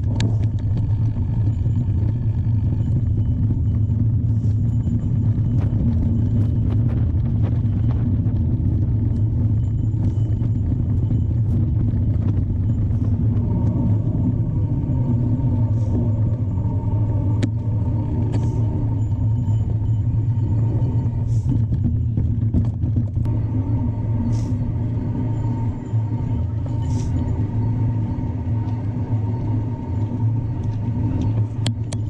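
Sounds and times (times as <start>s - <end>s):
bike tyre noise: 0.0s - 32.0s
wind buffeting microphone: 0.0s - 32.0s.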